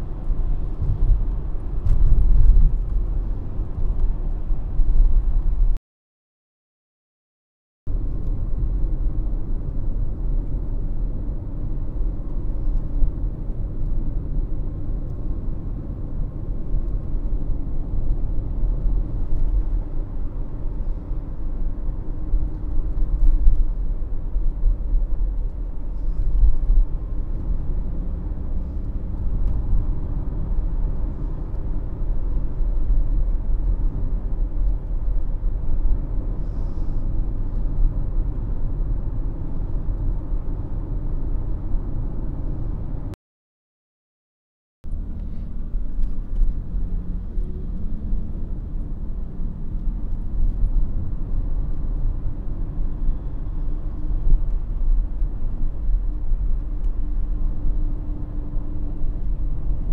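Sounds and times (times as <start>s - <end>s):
tyre road noise rumble: 0.0s - 5.8s, 7.9s - 43.2s, 44.8s - 59.9s.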